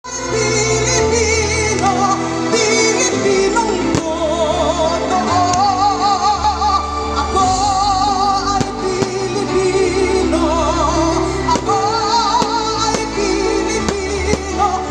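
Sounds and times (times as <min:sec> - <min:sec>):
person singing with vibrato: 0:00.0 - 0:14.9.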